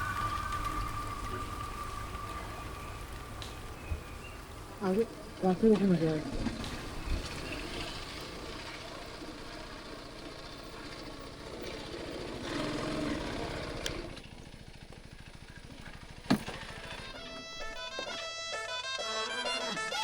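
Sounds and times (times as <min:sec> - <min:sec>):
motorcycle engine at low revs: 0:00.0 - 0:18.3.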